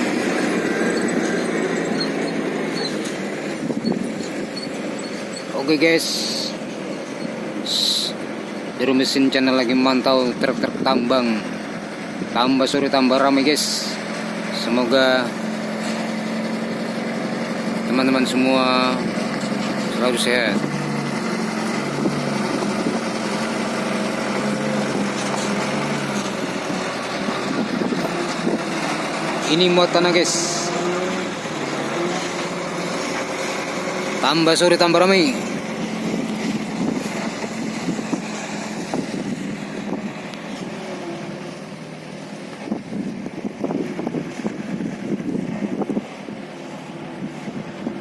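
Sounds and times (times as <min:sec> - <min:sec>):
diesel truck engine running: 0:00.0 - 0:48.0.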